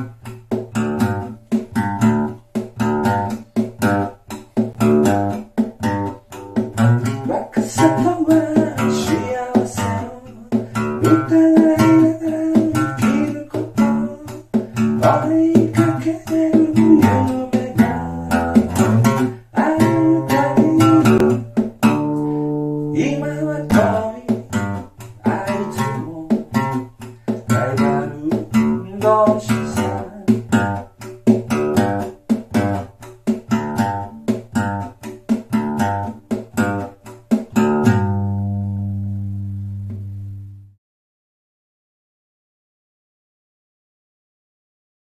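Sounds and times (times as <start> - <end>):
acoustic guitar strumming: 0.0 - 40.8.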